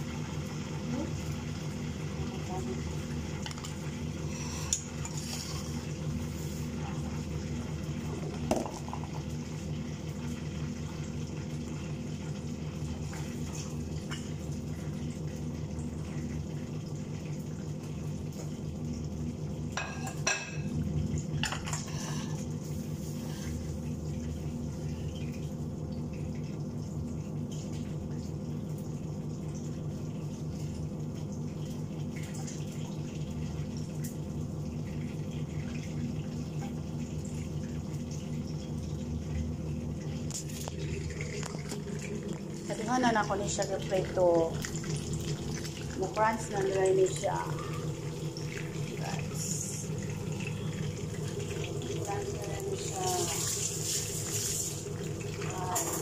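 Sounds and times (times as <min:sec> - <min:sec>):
extractor fan hum: 0:00.0 - 0:19.9, 0:28.2 - 0:56.0
chicken frying in oil: 0:00.0 - 0:55.8.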